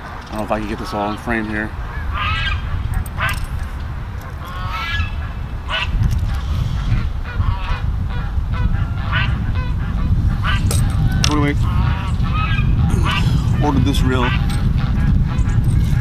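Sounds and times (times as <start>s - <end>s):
geese honking: 0.9s - 3.4s, 4.2s - 16.0s.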